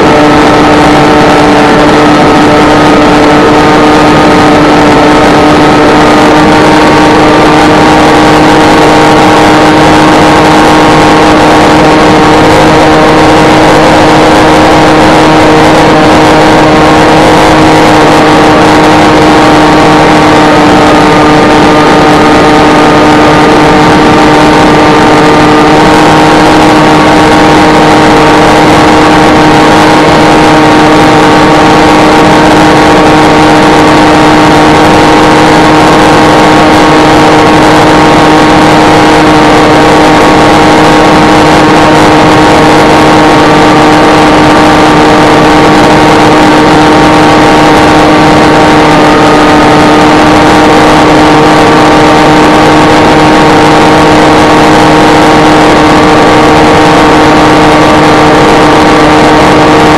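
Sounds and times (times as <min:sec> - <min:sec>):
model plane motor whine: 0:00.0 - 0:59.9.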